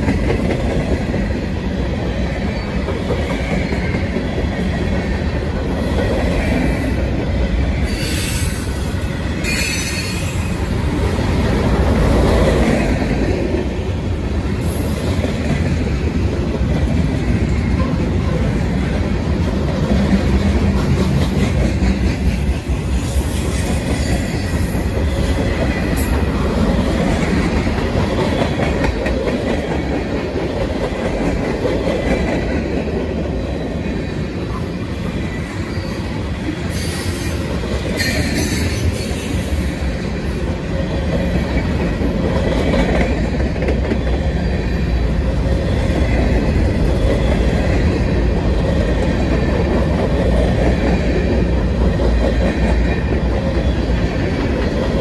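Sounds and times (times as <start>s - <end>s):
freight train wheels clattering: 0.0s - 55.0s.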